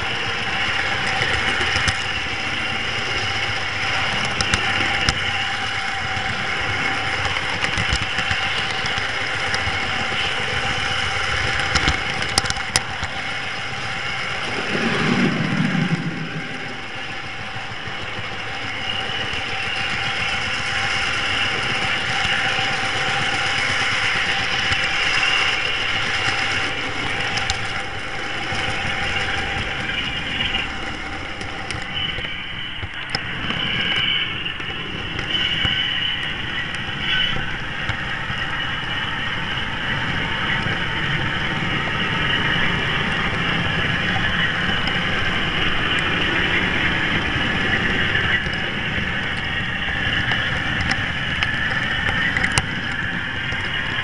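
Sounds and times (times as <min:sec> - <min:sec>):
low rumble: 0:00.0 - 0:54.0
model train hum and whine: 0:00.0 - 0:54.0
train track clicks: 0:00.0 - 0:54.0.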